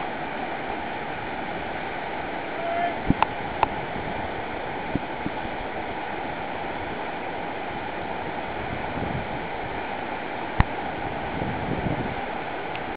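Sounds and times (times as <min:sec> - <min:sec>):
river rapids rushing: 0:00.0 - 0:12.9.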